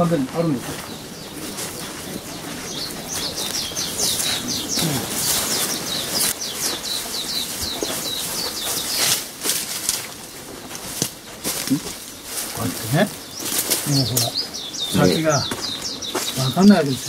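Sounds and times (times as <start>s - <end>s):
footsteps through dry undergrowth: 0.0s - 17.0s
small bird singing: 0.0s - 17.0s.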